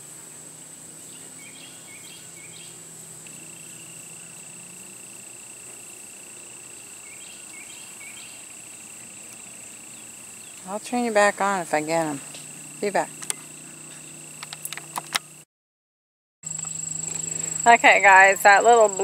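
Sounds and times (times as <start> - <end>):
short insect chirps: 0.0 - 11.4, 12.0 - 15.4, 16.5 - 19.0
high-pitched insect trill: 0.0 - 15.4, 16.5 - 19.0
lower insect trill: 0.0 - 15.5, 16.5 - 19.0.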